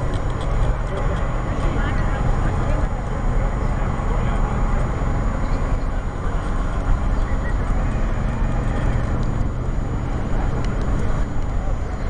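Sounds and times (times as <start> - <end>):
car engine running: 0.0 - 12.0
outdoor background noise: 0.0 - 12.0.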